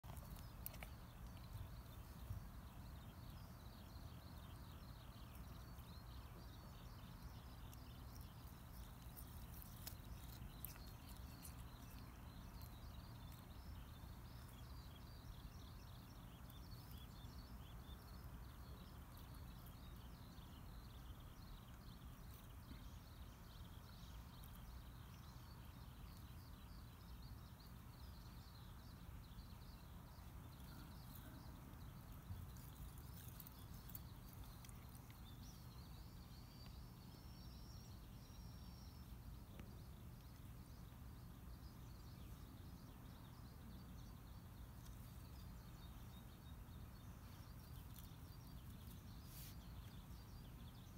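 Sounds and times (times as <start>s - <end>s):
dense high chirping: 0.0s - 50.9s.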